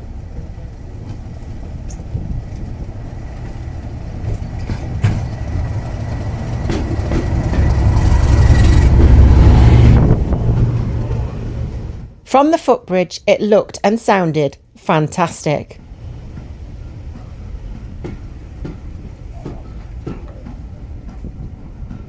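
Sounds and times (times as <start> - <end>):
diesel locomotive engines rumbling: 0.0 - 22.0.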